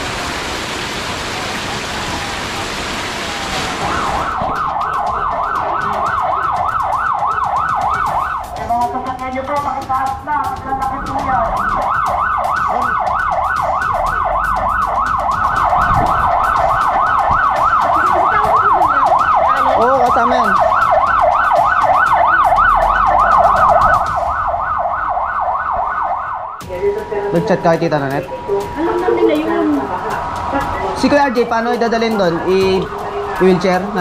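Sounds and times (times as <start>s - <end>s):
emergency siren yelping: 2.7s - 34.0s.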